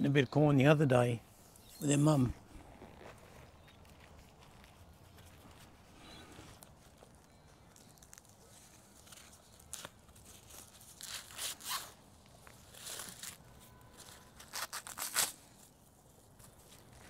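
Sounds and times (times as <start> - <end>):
rustling tearing noise: 1.4 - 17.0.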